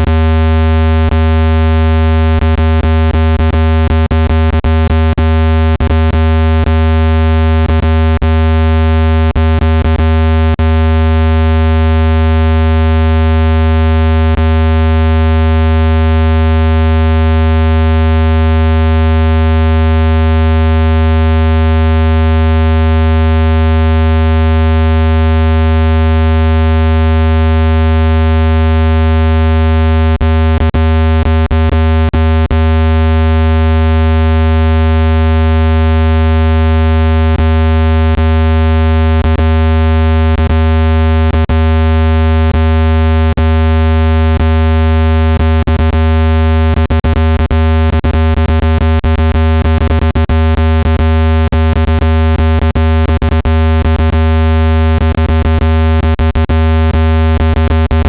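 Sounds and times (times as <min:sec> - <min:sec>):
low buzzing tone from speaker: 0:00.0 - 0:58.0.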